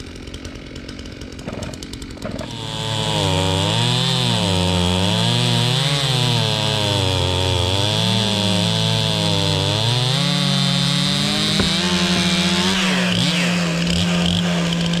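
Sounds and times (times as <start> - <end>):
chainsaw cutting tree: 0.0 - 15.0.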